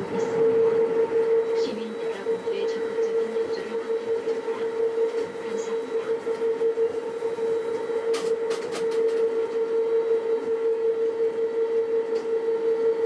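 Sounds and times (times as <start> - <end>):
train whine over rolling noise: 0.0 - 13.0.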